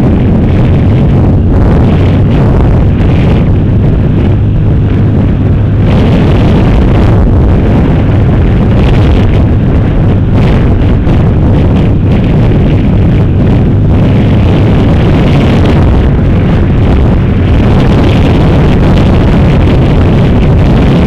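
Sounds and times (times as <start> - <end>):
motorcycle engine running: 0.0 - 21.0
wind rumble on microphone: 0.0 - 21.0.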